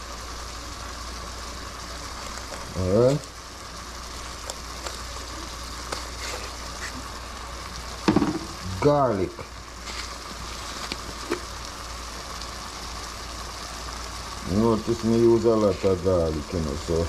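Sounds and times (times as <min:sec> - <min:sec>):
pot sizzling on stove: 0:00.0 - 0:17.0.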